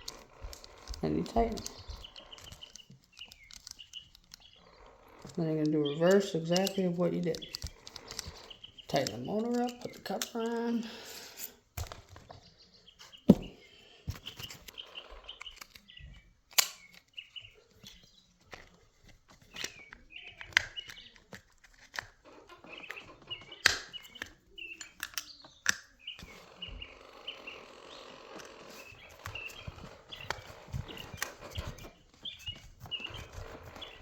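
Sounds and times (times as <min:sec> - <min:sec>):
hand tools clicking and knocking: 0:00.0 - 0:12.4, 0:13.0 - 0:34.0.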